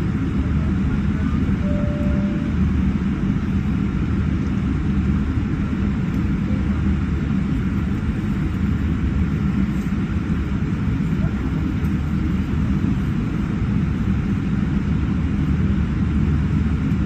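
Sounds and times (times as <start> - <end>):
jet engines idling rumble: 0.0 - 17.0.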